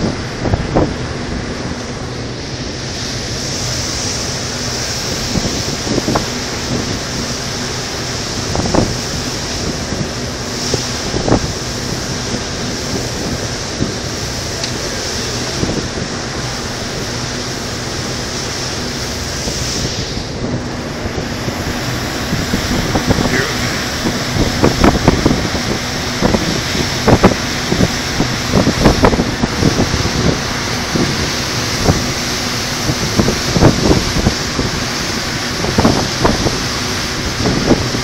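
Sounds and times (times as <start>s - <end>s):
boat engine drone: 0.0s - 38.0s
rushing water: 0.0s - 38.0s
wind blowing across microphone: 0.0s - 38.0s.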